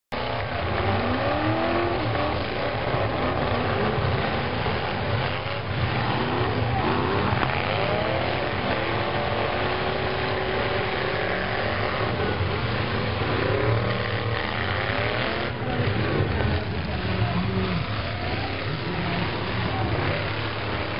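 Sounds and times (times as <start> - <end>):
truck engines revving: 0.1 - 20.9.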